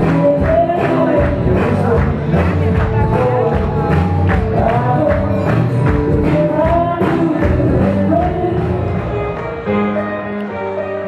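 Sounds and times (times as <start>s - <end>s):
singing over percussive beat: 0.0s - 9.1s.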